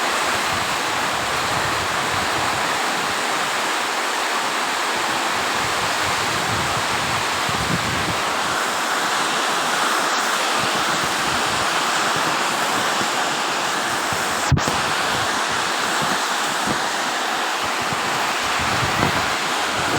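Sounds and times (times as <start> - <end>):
heavy rain: 0.0 - 19.9
strong wind: 0.0 - 19.9.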